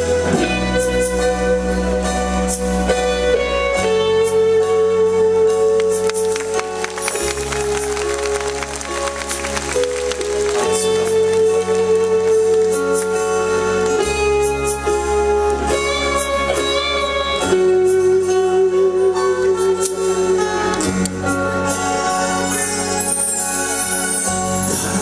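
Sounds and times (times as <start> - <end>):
bass guitar: 0.0 - 25.0
electric guitar: 0.0 - 25.0.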